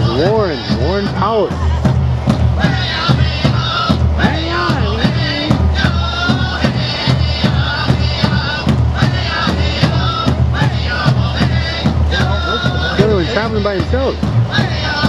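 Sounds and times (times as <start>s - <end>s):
large hand drum beating: 0.0s - 14.8s
group of voices singing: 0.0s - 15.0s.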